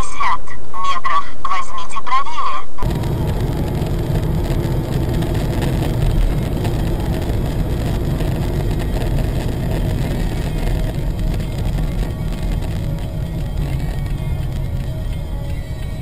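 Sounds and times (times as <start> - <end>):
car engine and tyre noise: 2.8 - 16.0.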